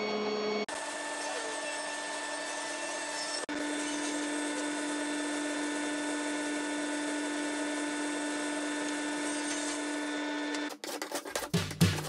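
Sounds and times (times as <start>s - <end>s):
table saw running: 0.6s - 10.7s.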